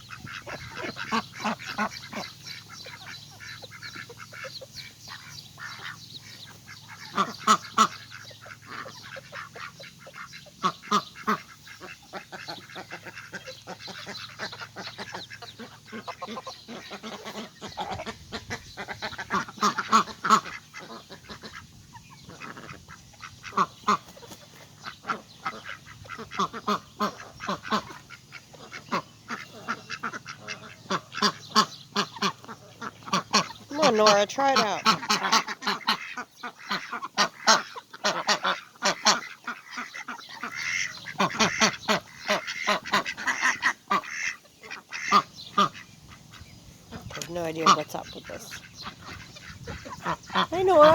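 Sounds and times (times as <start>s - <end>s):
ducks quacking: 0.0s - 50.9s.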